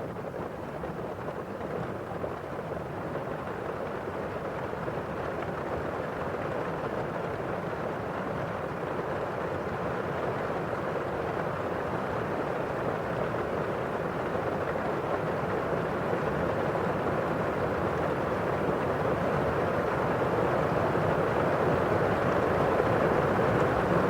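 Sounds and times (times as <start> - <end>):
rain on a windowpane: 0.2 - 24.0.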